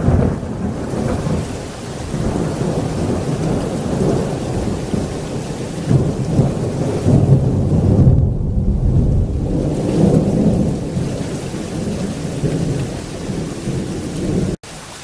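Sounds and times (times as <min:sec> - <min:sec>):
rolling thunder: 0:00.0 - 0:14.6
heavy rain: 0:00.0 - 0:15.0.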